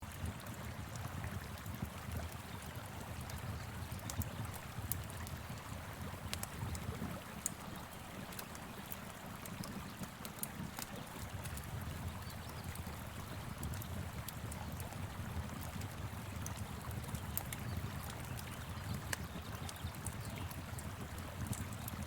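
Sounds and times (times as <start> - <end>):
river flowing: 0.2 - 18.6
wood fire crackling: 0.2 - 22.0.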